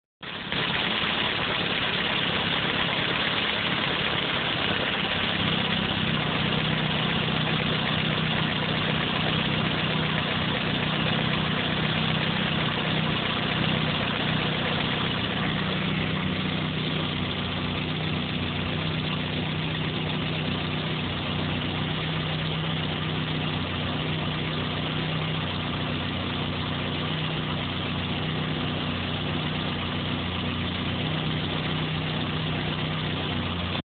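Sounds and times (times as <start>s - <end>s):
car engine idling: 0.2s - 33.8s.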